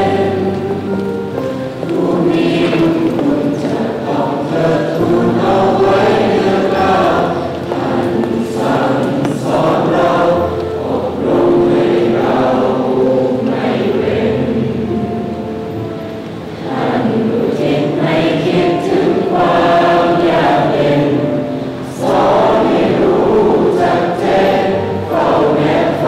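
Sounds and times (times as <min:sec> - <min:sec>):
choir singing slow song: 0:00.0 - 0:26.0.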